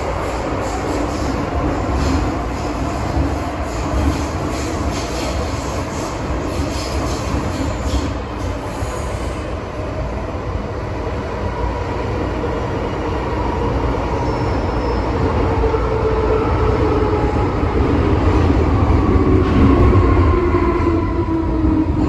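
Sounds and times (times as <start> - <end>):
train running inside car: 0.0 - 22.0.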